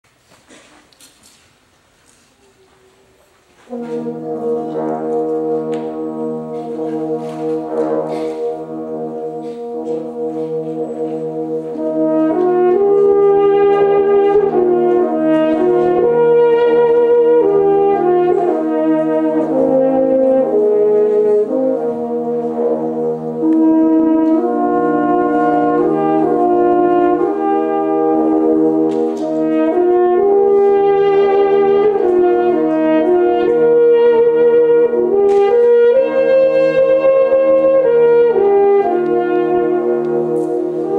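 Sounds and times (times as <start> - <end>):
french horn ensemble playing: 3.6 - 40.9.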